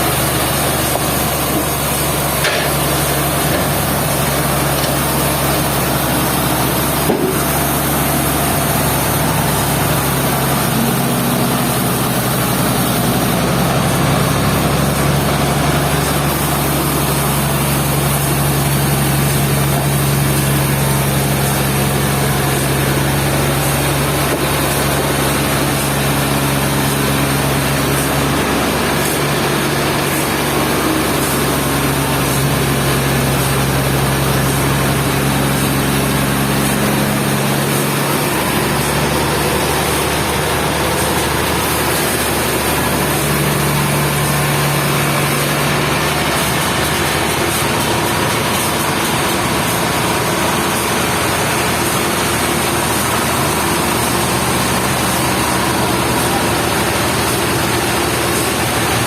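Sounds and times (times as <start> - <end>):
sawmill machinery motor hum: 0.0 - 59.0.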